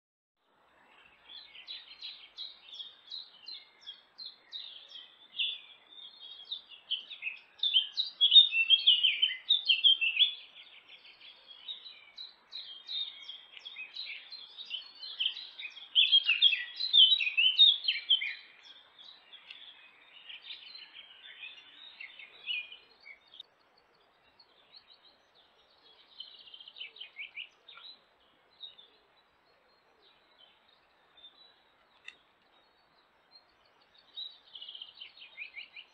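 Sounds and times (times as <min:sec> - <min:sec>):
songbirds chirping and twittering: 0:00.4 - 0:35.9.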